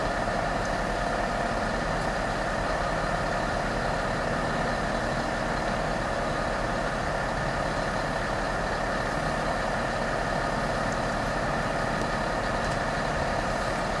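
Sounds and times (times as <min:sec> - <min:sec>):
locomotive hum with whine: 0:00.0 - 0:14.0.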